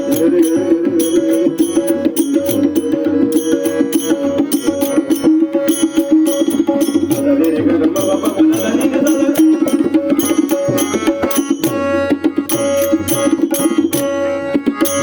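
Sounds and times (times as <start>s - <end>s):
held melodic line: 0.0s - 15.0s
tabla drum beat: 0.0s - 15.0s.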